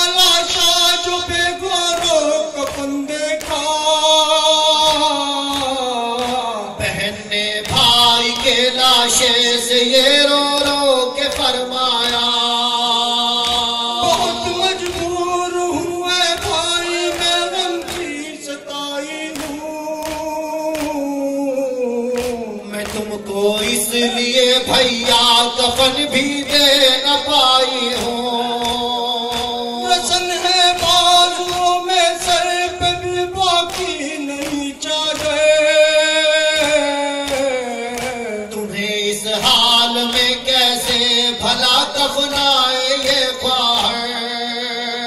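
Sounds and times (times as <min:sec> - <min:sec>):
men singing a lament: 0:00.0 - 0:45.0.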